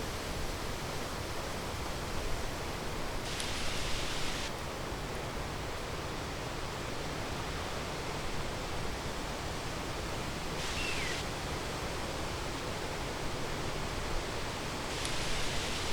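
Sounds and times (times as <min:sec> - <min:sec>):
rushing outdoor background noise: 0:00.0 - 0:15.9.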